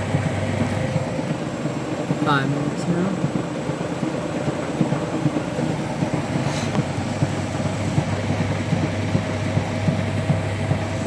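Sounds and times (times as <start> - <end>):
washing machine drum humming: 0.0 - 11.0
washing machine knocking: 0.0 - 11.0.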